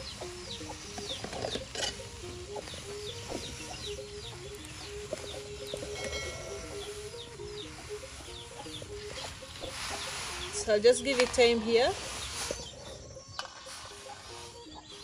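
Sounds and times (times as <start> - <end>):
chicks peeping: 0.0 - 15.0
simple low background melody: 0.0 - 15.0.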